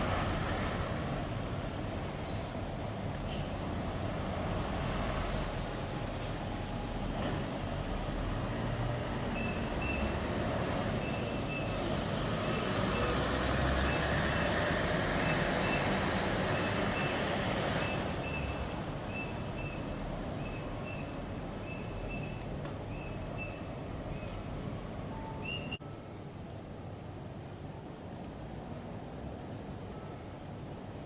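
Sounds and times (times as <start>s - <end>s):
bus engines running: 0.0s - 31.0s.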